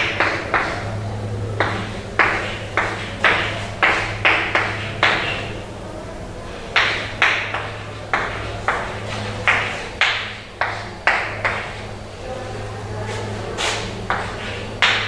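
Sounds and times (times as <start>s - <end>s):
chalk tapping and scraping on chalkboard: 0.0s - 1.0s, 1.6s - 5.6s, 6.7s - 12.0s, 13.0s - 15.0s.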